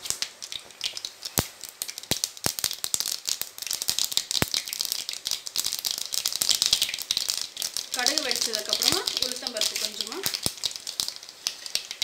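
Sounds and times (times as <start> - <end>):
oil sizzling: 0.0 - 12.0
seeds popping in hot oil: 0.0 - 12.0.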